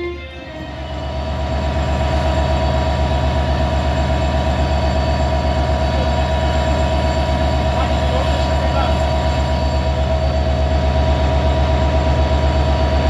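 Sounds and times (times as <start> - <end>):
locomotive engine humming: 0.0 - 13.0.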